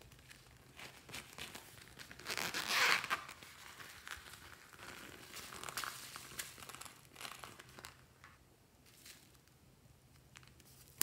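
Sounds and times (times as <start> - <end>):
plastic pencil case crinkling: 0.0 - 9.4.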